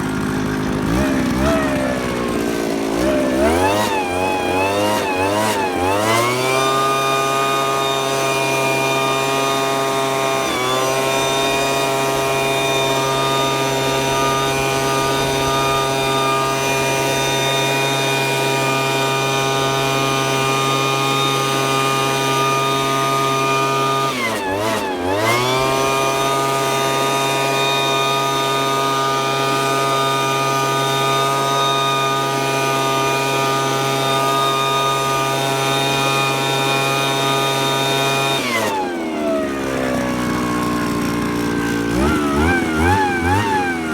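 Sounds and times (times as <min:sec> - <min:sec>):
leaf blower engine running: 0:00.0 - 0:43.9.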